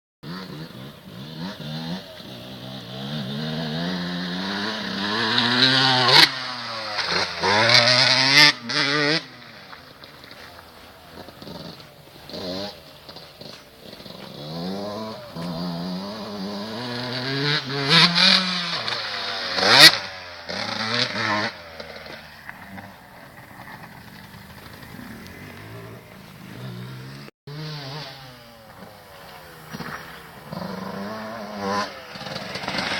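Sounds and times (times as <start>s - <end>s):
motocross bike engines revving: 0.2s - 32.9s.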